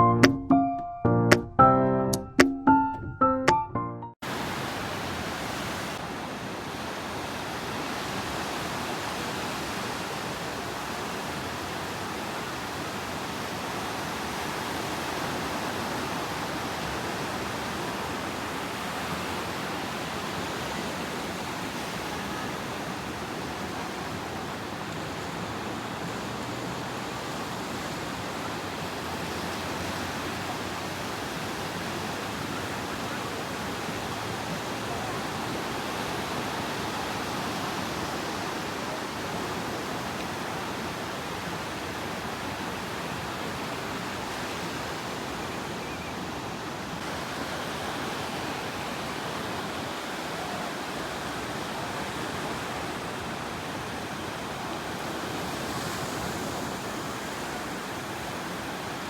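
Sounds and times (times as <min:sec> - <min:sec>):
water rushing: 0:04.2 - 0:45.4, 0:46.4 - 0:59.0.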